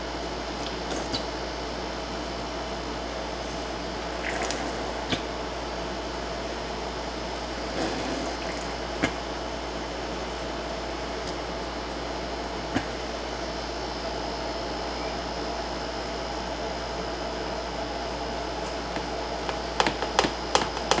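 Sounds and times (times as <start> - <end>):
kitchen hum and hiss: 0.0 - 21.0.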